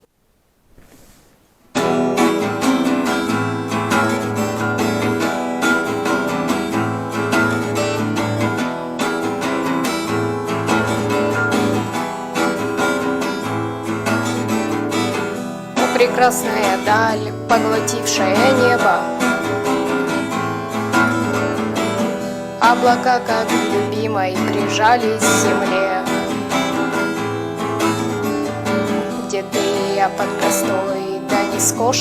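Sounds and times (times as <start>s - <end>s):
acoustic guitar strumming chords: 1.7s - 32.0s.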